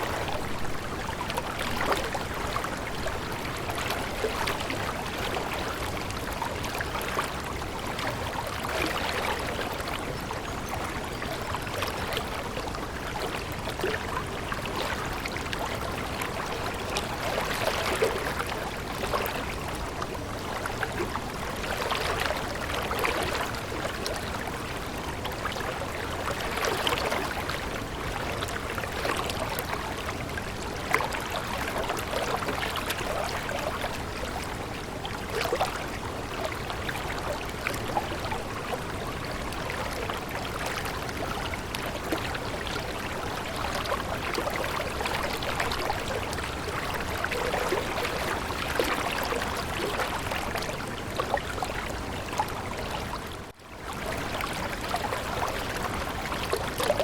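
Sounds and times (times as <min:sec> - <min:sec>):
stream trickling and gurgling: 0:00.0 - 0:57.0.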